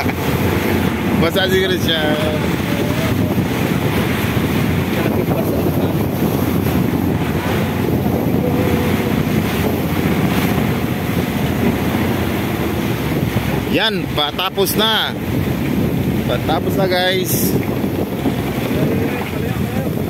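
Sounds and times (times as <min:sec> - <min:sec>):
waves washing around hull: 0:00.0 - 0:20.0
wind buffeting microphone: 0:00.0 - 0:20.0.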